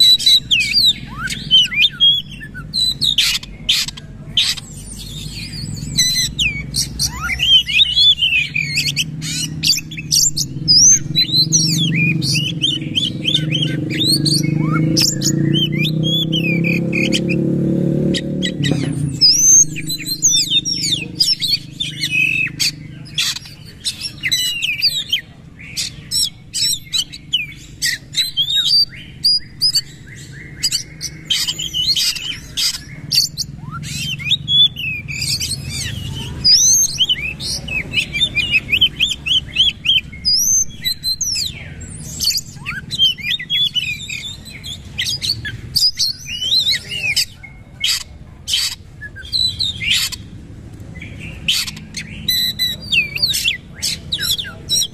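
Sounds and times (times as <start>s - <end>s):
bird singing whistles and trills: 0.0s - 50.3s, 51.0s - 54.9s.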